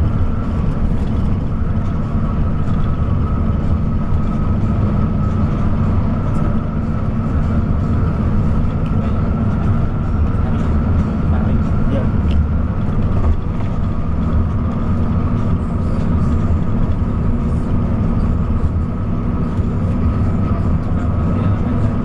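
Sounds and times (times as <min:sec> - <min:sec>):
coach engine and road drone: 0:00.0 - 0:22.0.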